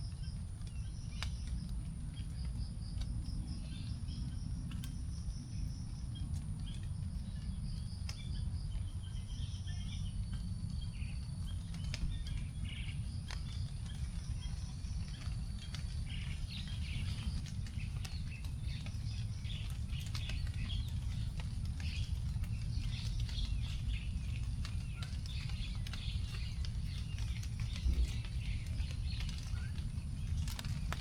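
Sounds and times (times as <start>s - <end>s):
small birds chirping: 0.0s - 31.0s
water drops on leaves: 0.0s - 31.0s.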